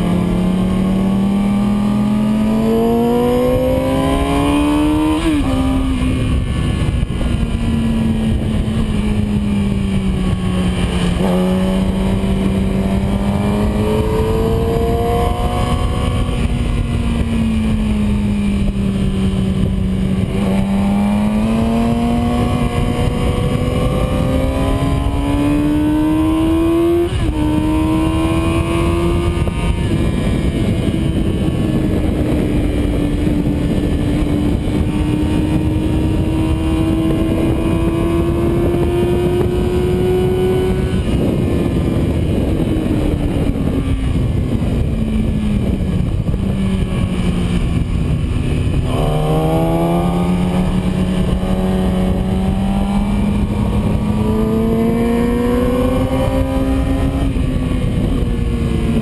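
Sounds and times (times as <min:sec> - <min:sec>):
motorcycle engine revving: 0:00.0 - 0:59.0
wind rushing on microphone: 0:00.0 - 0:59.0.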